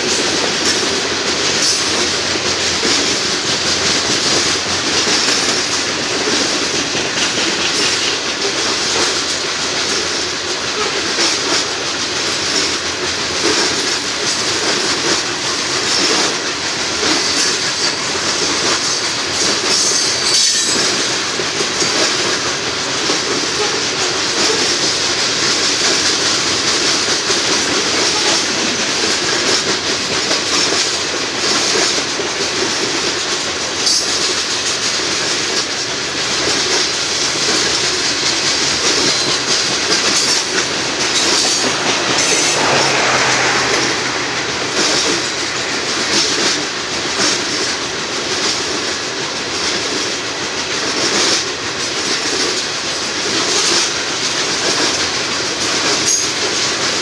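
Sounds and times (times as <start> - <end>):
train cars rolling past: 0.0 - 57.0.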